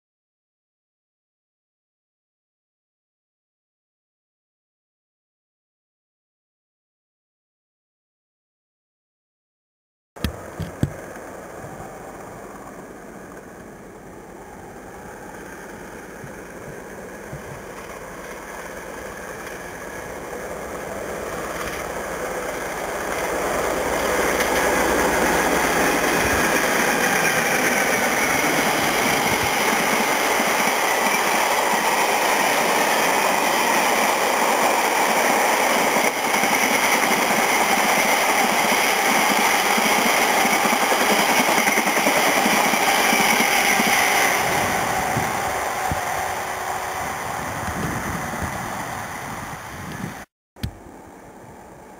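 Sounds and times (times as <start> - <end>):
diesel locomotive engine: 10.2 - 51.9.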